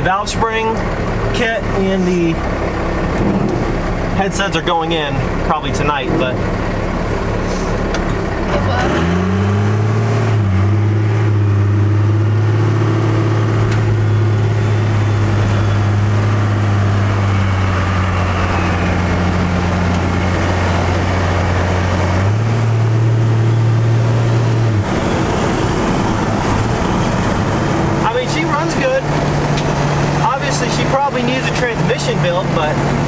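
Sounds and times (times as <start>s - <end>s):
diesel engine drone from inside cab: 0.0s - 33.0s.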